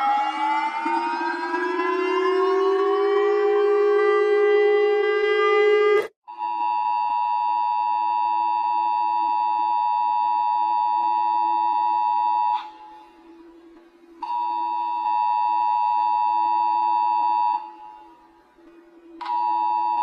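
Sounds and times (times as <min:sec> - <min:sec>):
two-tone alarm: 0:00.0 - 0:20.0.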